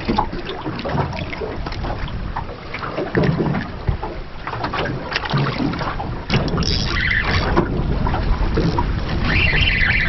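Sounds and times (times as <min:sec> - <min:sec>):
water slapping boat hull: 0:00.0 - 0:10.0
wind buffeting microphone: 0:00.0 - 0:10.0.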